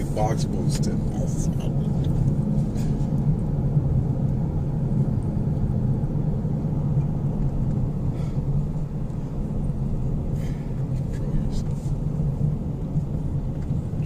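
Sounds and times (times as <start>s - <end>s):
road and tyre rumble in car: 0.0s - 14.0s.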